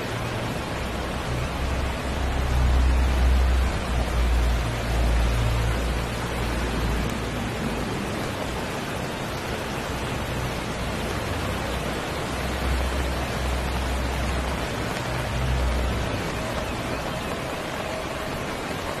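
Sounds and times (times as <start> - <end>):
heavy downpour: 0.0 - 19.0
running floodwater: 0.0 - 19.0.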